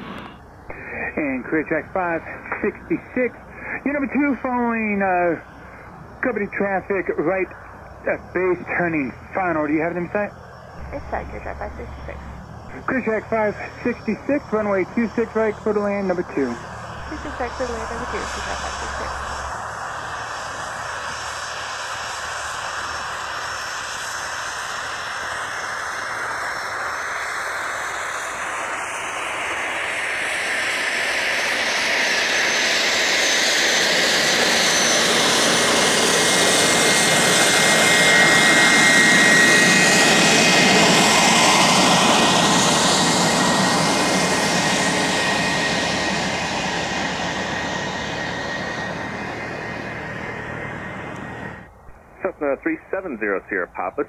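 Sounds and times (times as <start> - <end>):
propeller airplane passing: 0.0 - 54.0.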